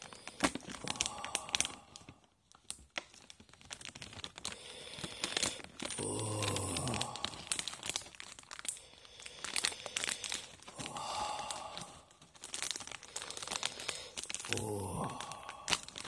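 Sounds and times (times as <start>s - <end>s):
plastic film crinkling and tearing: 0.0s - 16.0s.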